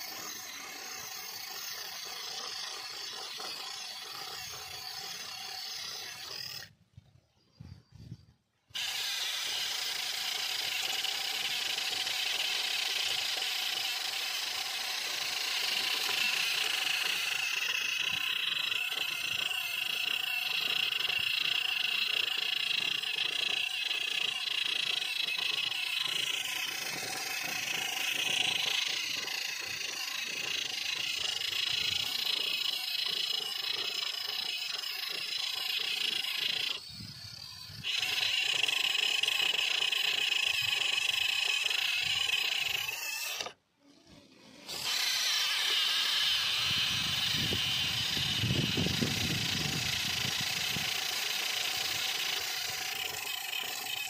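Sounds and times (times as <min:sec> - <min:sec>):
toy electric motors whining: 0:00.0 - 0:54.0.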